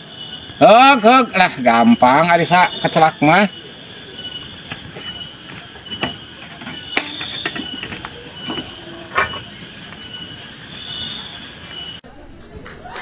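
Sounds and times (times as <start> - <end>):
high insect chirping: 0.0 - 12.0.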